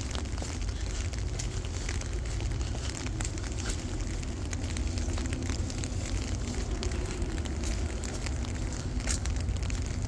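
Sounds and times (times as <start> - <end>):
rain drops ticking: 0.0 - 10.0
steady low rumble: 0.0 - 10.0.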